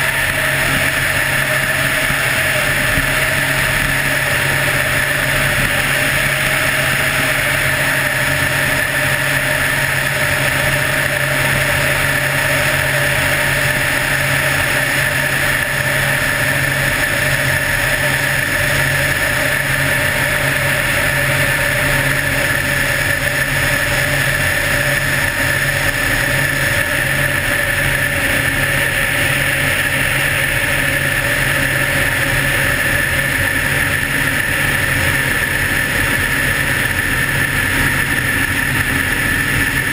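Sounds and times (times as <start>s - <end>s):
helicopter engine and rotor: 0.0s - 39.9s
high whine: 0.0s - 39.9s.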